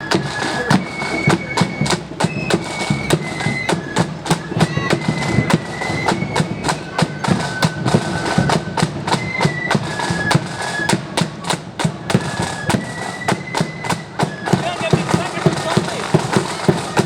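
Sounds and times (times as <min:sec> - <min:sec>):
flutes playing high melody: 0:00.0 - 0:17.0
snare and bass drums: 0:00.0 - 0:17.0.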